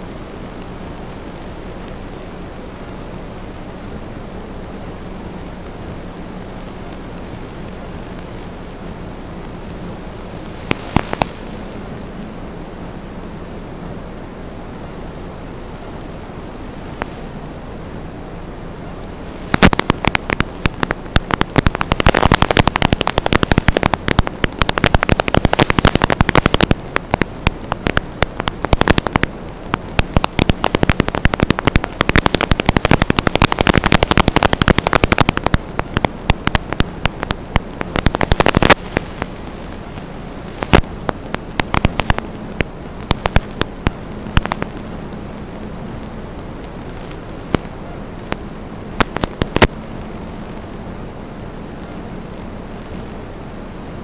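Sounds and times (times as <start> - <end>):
crackling static: 0.0 - 54.0
faint steady hum: 0.0 - 54.0.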